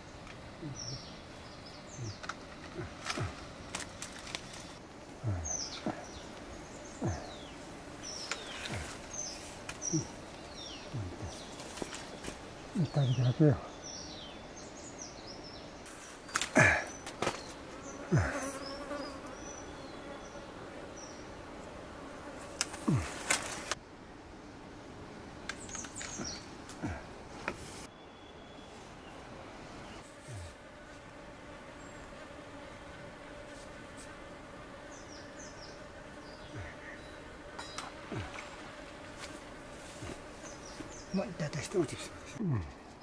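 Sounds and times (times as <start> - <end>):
flying insect buzzing: 0.0 - 13.0, 13.8 - 23.8, 29.2 - 42.8.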